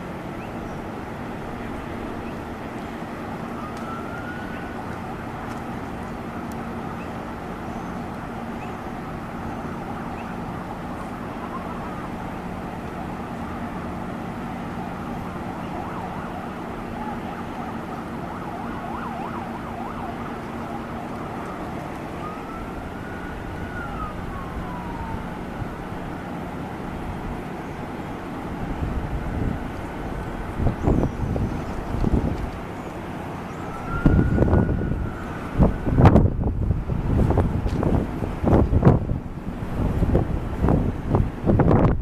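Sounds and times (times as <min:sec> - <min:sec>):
emergency siren: 0:00.0 - 0:42.0
rushing outdoor noise: 0:00.0 - 0:42.0.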